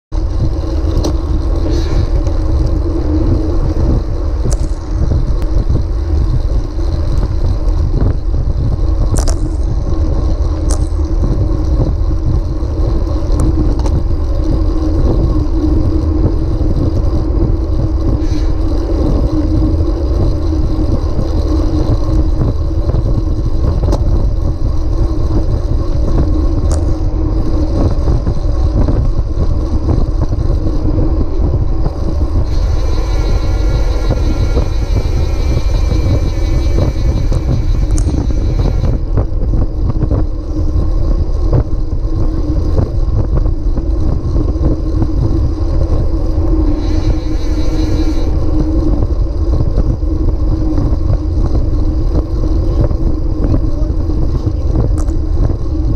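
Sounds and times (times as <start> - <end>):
tyre on road noise: 0.1 - 55.9
wind rush: 0.1 - 55.9.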